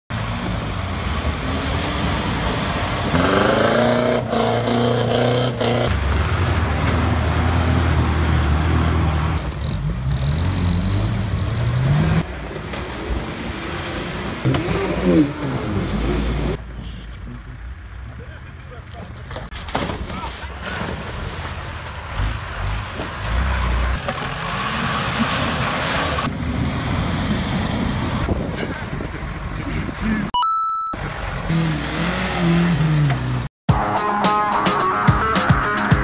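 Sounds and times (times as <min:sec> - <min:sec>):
off-road vehicle engines revving: 0:00.1 - 0:30.3, 0:31.0 - 0:33.5.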